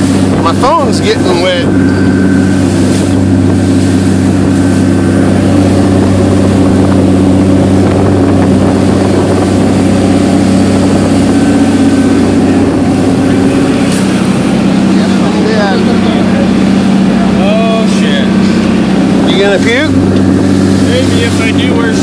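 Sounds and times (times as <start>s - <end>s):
boat engine droning: 0.0s - 22.0s
water rushing around hull: 0.0s - 22.0s
wind: 0.0s - 22.0s.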